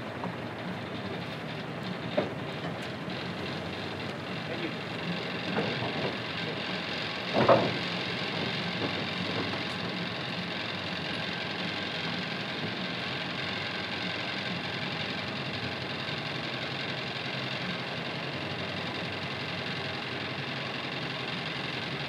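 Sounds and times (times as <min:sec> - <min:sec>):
ferry engine idling: 0:00.0 - 0:22.0.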